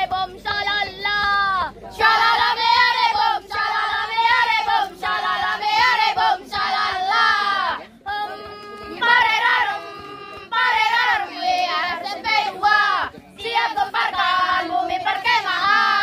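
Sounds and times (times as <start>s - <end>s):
girls singing together: 0.0s - 16.0s.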